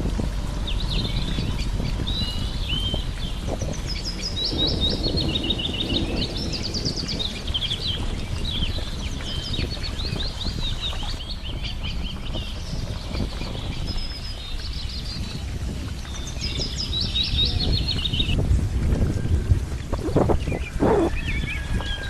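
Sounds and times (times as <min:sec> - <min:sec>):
low background rumble: 0:00.0 - 0:22.0
songbirds chirping and singing: 0:00.4 - 0:22.0.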